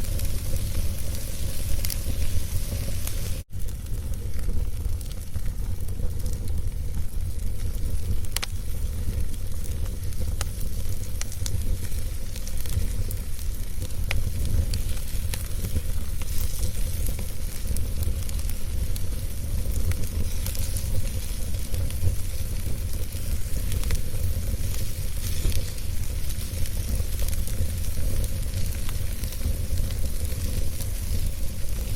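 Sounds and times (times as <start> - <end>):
fire crackling and popping: 0.0 - 31.9
wood fire roaring: 0.0 - 31.9.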